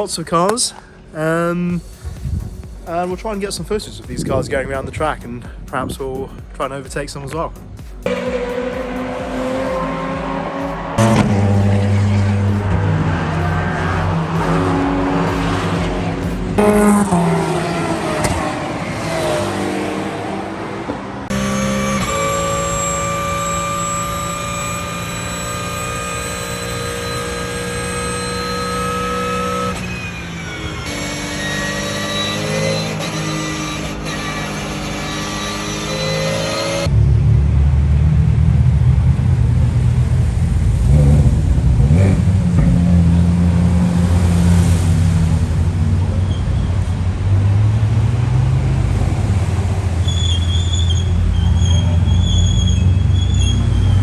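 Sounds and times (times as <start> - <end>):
race car engines running: 0.0 - 54.0.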